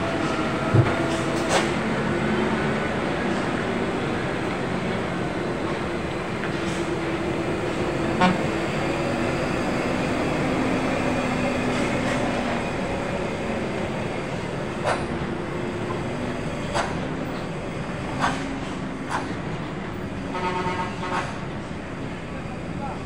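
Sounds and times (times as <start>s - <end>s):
diesel truck engines droning: 0.0s - 23.0s.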